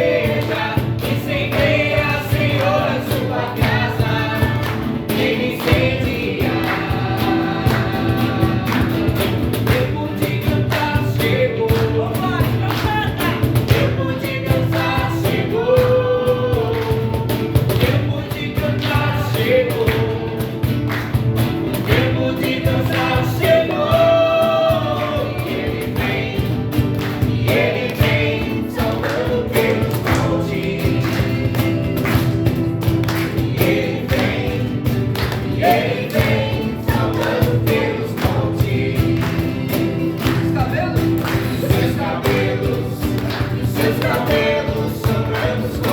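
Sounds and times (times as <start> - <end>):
choir singing: 0.0 - 12.5, 13.3 - 20.7, 21.6 - 45.9
band with steady beat: 0.0 - 45.9.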